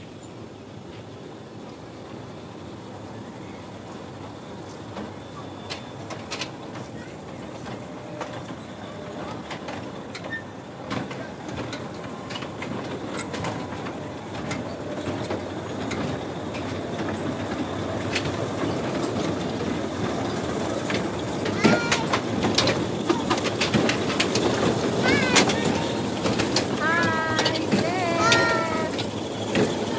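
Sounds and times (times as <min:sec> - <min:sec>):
ride cars rattling on metal track: 0:02.2 - 0:29.9.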